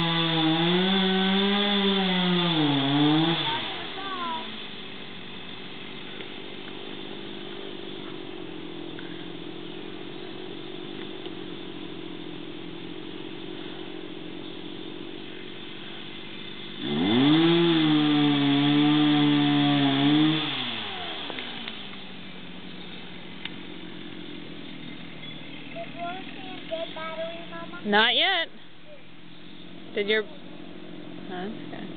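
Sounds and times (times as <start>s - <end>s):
chainsaw idling and revving: 0.0s - 28.3s.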